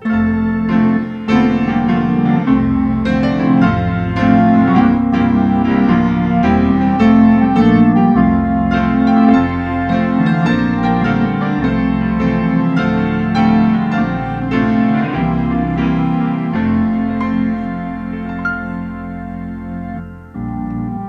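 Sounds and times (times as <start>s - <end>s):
held organ chords: 0.0s - 21.0s
piano notes: 0.0s - 21.0s.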